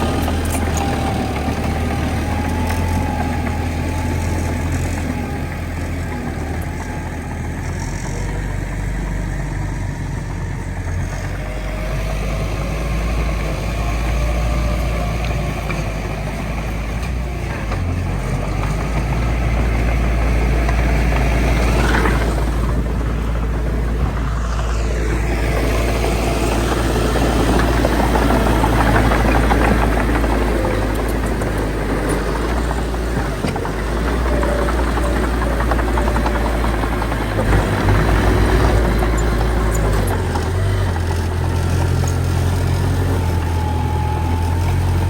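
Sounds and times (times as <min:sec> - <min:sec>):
heavy diesel machinery rumbling: 0:00.0 - 0:45.0.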